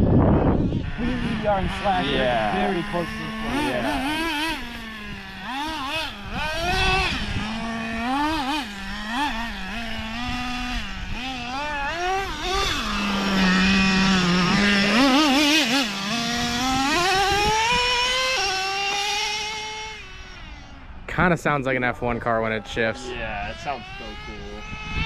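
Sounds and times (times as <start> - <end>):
radio-controlled car engine revving: 0.0 - 25.0.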